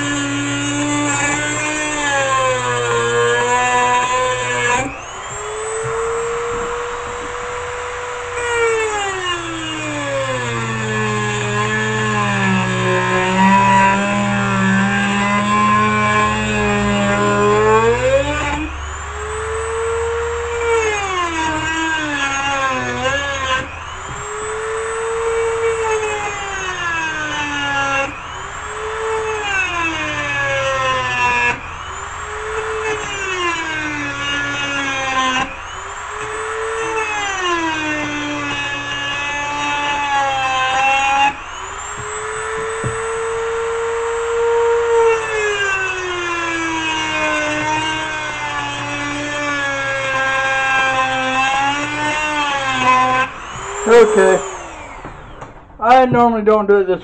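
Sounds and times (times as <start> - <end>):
rotary tool cutting metal: 0.0 - 55.5.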